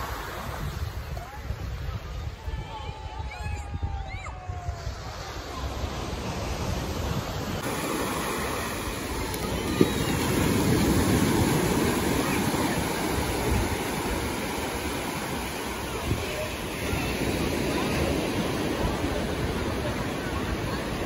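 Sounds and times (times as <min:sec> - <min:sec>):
ocean surf breaking: 0:00.0 - 0:01.2, 0:04.7 - 0:21.0.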